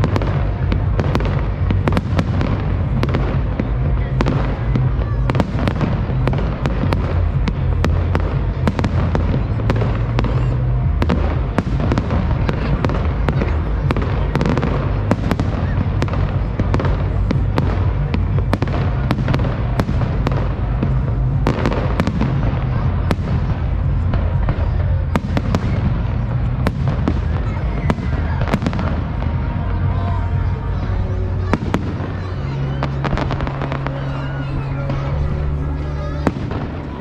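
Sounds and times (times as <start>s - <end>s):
fireworks bangs and crackles: 0.0s - 37.0s
music with bass line: 0.0s - 37.0s.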